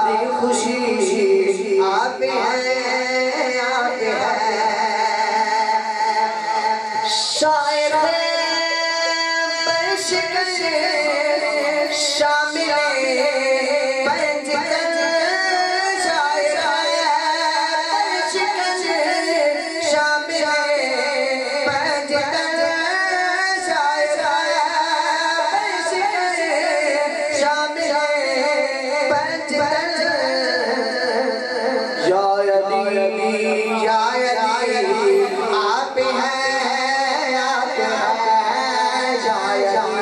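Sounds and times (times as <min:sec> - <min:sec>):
man singing into a microphone: 0:00.0 - 0:40.0.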